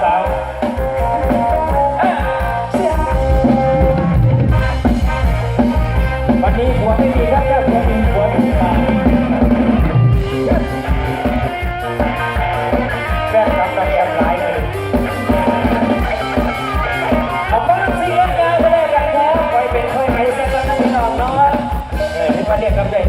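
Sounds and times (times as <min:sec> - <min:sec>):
person singing: 0:00.0 - 0:04.9, 0:06.4 - 0:22.8
drum-kit beat: 0:00.0 - 0:23.0.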